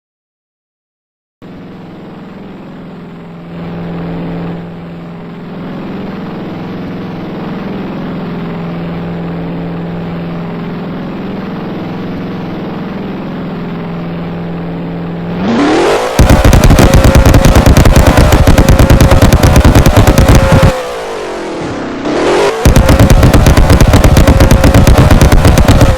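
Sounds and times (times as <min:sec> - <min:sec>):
car engine idling: 0:01.4 - 0:25.9
car engine revving with crackling exhaust: 0:01.4 - 0:25.9.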